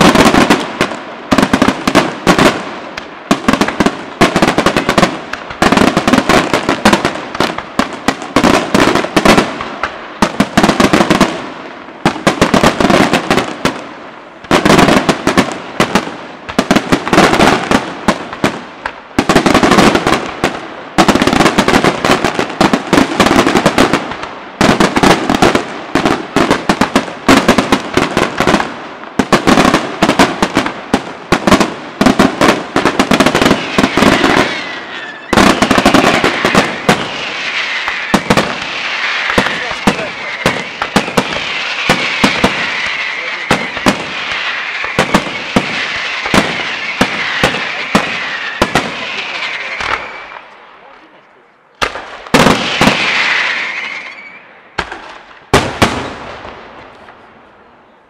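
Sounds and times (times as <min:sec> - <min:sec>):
firework shells bursting with bangs: 0:00.0 - 0:50.6, 0:51.8 - 0:57.2
dense firework crackling: 0:00.0 - 0:57.6.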